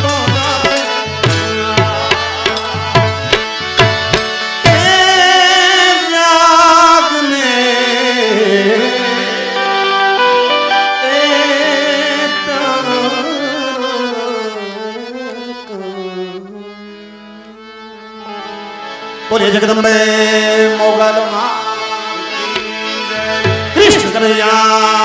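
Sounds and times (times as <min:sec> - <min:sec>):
folk devotional music: 0:00.0 - 0:25.0
harmonium drone: 0:00.0 - 0:25.0.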